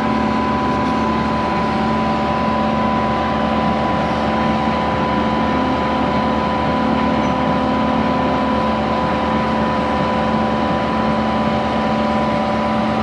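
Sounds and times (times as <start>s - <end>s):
excavator engine running: 0.0s - 13.0s
steady whine: 0.0s - 13.0s.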